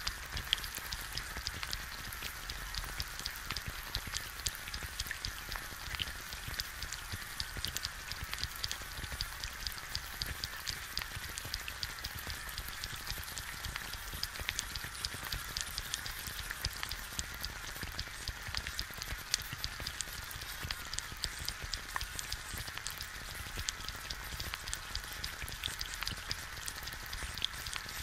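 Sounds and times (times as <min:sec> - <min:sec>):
egg sizzling and popping in pan: 0:00.0 - 0:28.0.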